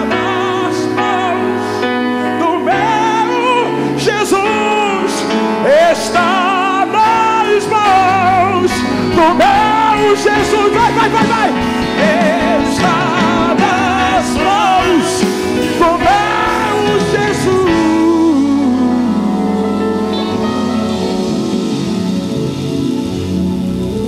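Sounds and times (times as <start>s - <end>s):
man singing with vibrato: 0.0s - 22.9s
electric guitar: 0.0s - 24.0s
gospel band playing: 0.0s - 24.0s
keyboard: 0.0s - 24.0s.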